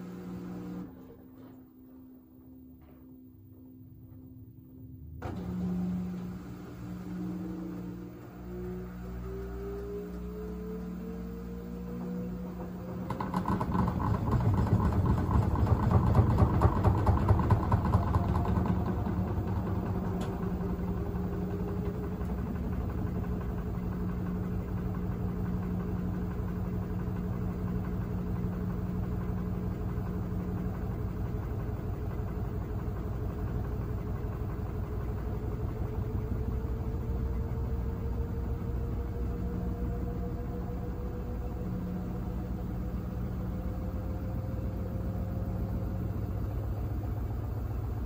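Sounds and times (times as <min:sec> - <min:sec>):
washing machine spinning: 0:00.0 - 0:48.0.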